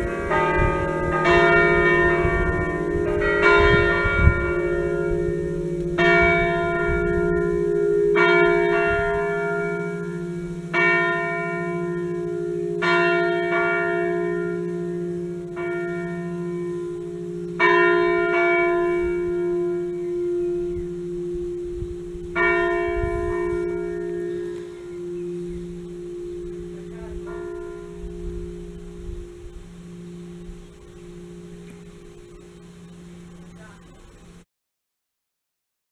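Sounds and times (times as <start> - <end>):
church bells struck by hand: 0.0 - 34.4
low hum of ringing bells: 0.0 - 34.4.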